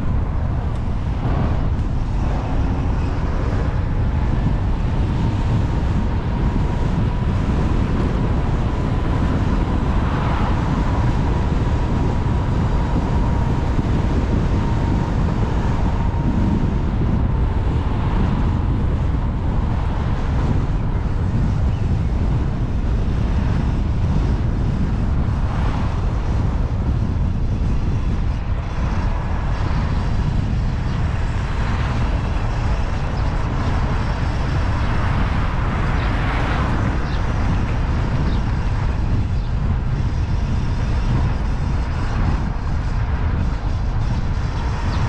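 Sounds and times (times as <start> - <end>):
wind and road noise: 0.0 - 45.0
wind rumble on microphone: 0.0 - 45.0.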